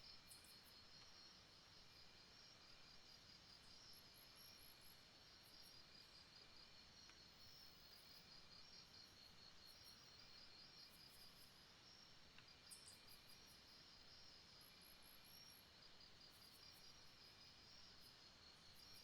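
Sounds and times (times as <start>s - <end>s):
soft hiss: 0.0s - 19.0s
insects chirping: 0.1s - 19.0s.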